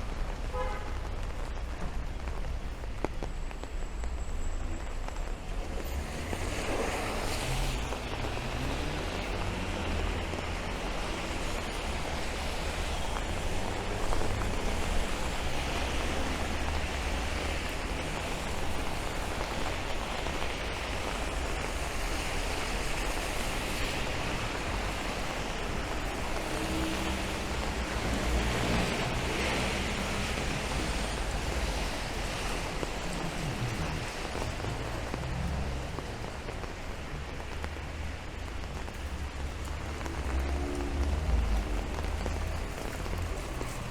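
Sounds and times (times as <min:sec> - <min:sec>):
rain falling on street: 0:00.0 - 0:43.9
traffic on wet road: 0:00.0 - 0:43.9.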